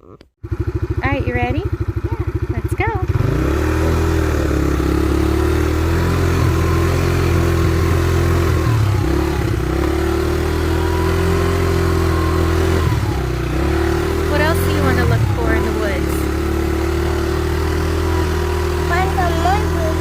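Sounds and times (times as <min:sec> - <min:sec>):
small vehicle engine running: 0:00.4 - 0:20.0.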